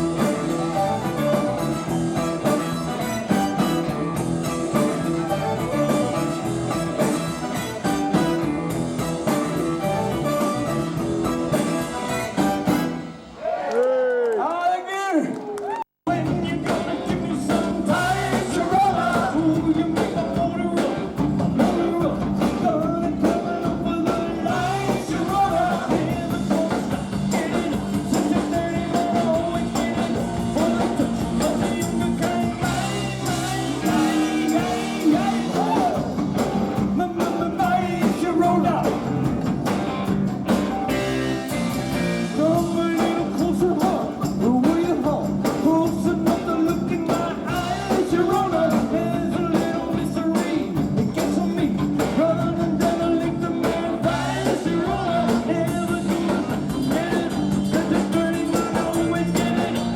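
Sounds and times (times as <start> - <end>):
live rock band with singer: 0.0 - 13.4, 16.1 - 59.9.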